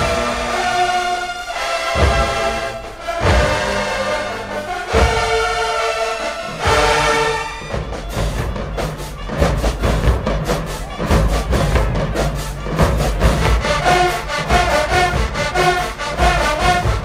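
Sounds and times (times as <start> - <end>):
brass chord: 0.0 - 17.0
marching band playing: 0.0 - 17.0
rapid drum hits: 1.9 - 4.2, 4.8 - 5.7, 6.5 - 17.0.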